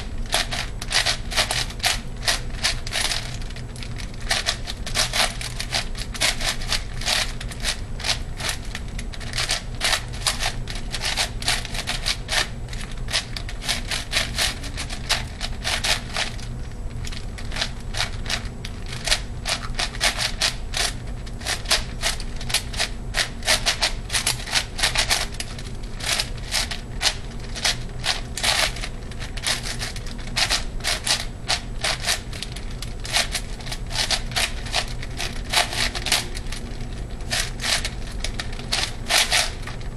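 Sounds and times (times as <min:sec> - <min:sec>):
puzzle cube clacking: 0:00.2 - 0:16.4, 0:17.0 - 0:39.9.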